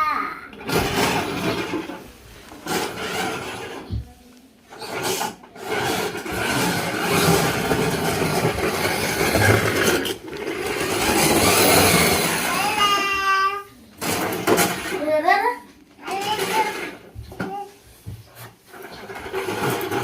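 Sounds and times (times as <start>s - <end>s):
plastic wheels grinding on floor: 0.5s - 20.0s.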